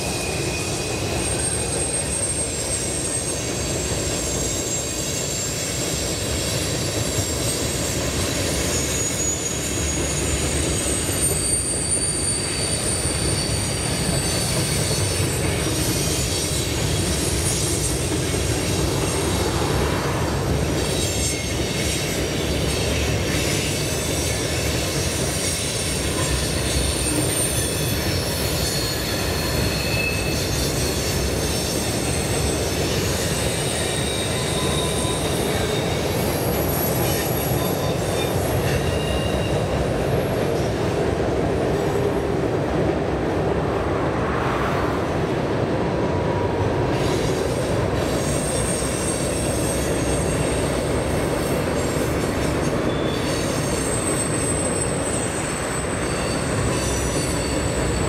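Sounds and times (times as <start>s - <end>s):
high-pitched wheel squeals: 0.0s - 20.0s, 20.6s - 40.6s, 47.0s - 58.0s
train wheels rumbling on rail: 0.0s - 58.0s.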